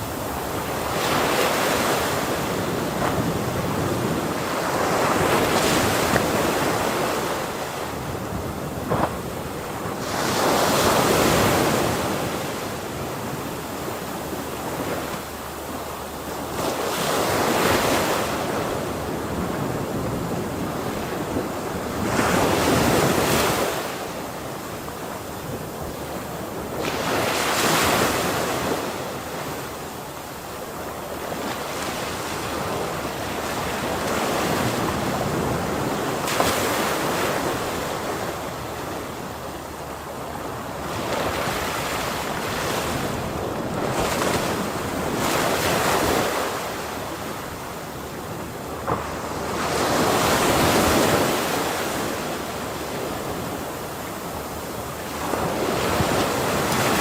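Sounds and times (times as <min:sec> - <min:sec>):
ocean waves crashing: 0:00.0 - 0:57.0.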